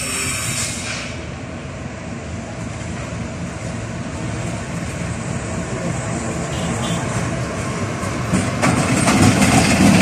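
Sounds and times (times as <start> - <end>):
locomotive engine rumble: 0.0 - 10.0.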